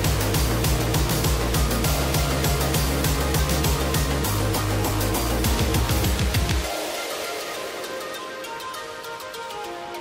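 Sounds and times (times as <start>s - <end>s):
music with driving beat and bass: 0.0s - 10.0s.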